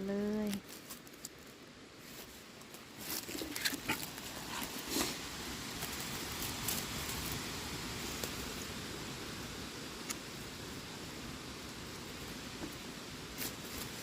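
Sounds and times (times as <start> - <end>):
rustling on forest floor: 0.0 - 14.0.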